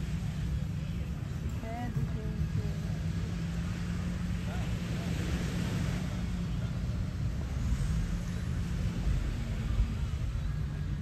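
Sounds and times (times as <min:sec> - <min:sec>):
motor engine humming: 0:00.0 - 0:11.0
outdoor background noise: 0:00.0 - 0:11.0.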